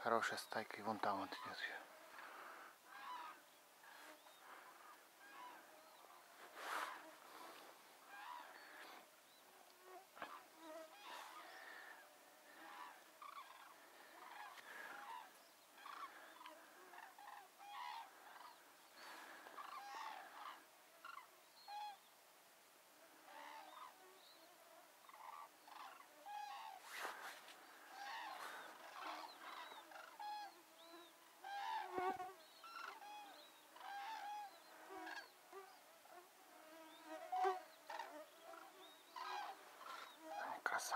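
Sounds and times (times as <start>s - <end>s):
cranes trumpeting calls: 1.2s - 9.1s, 9.8s - 22.1s, 23.2s - 24.1s, 25.0s - 35.8s, 36.9s - 40.9s.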